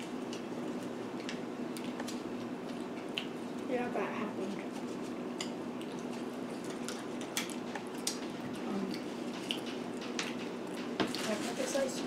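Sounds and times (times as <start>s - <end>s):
low room hum: 0.0s - 12.0s
chewing: 0.3s - 3.7s, 4.5s - 11.4s.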